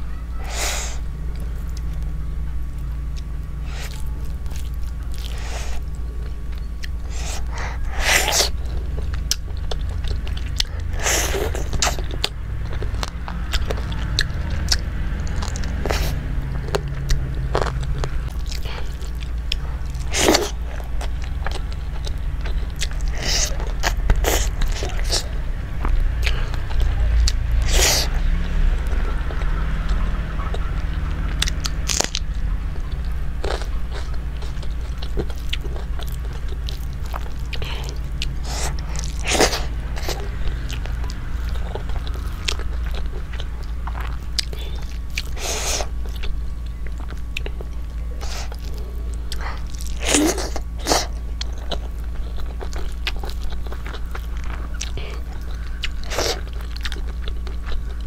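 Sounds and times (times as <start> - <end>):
close chewing of food: 0.0 - 58.0
steady low hum: 0.0 - 58.0.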